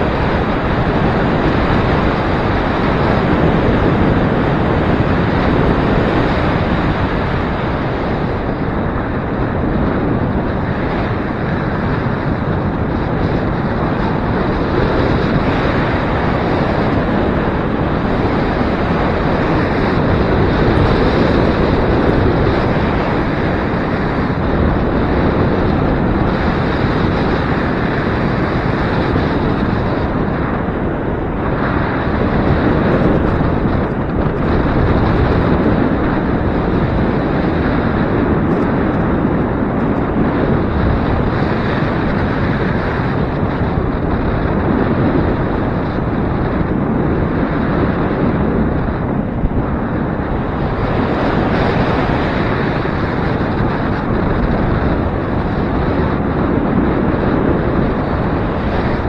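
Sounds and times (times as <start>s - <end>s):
wind blowing across microphone: 0.0s - 59.0s.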